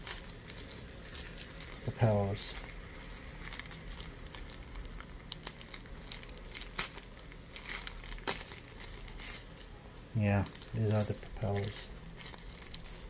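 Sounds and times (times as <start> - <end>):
paper wrapping crinkling: 0.0 - 13.0
sharp paper crackles: 0.0 - 13.0.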